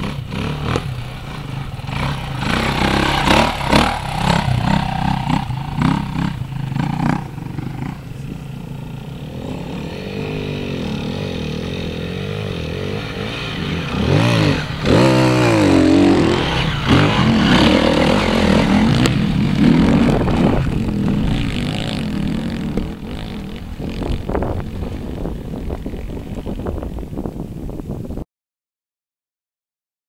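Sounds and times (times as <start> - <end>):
dirt bike engines revving: 0.0 - 27.7.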